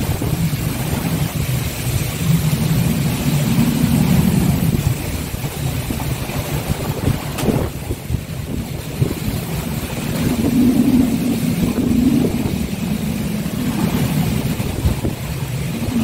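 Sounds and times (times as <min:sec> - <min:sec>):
low drone: 0:00.0 - 0:16.0
wind buffeting microphone: 0:00.0 - 0:16.0.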